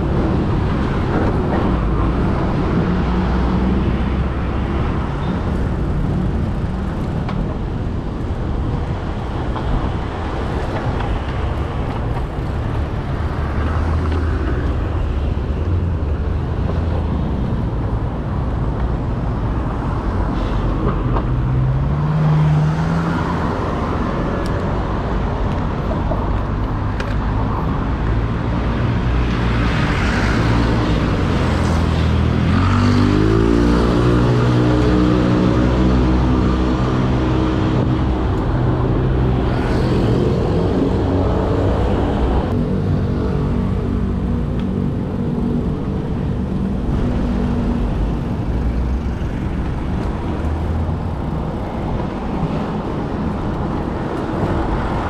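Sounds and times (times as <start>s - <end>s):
vehicle engines passing: 0.0s - 55.0s.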